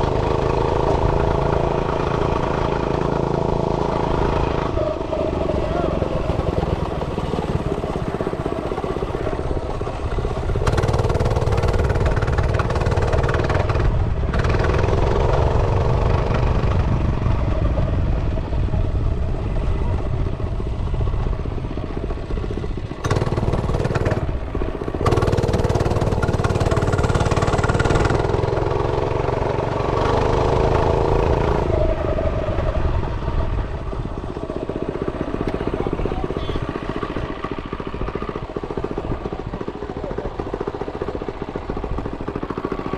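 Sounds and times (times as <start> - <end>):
minibike engine running: 0.0 - 42.9.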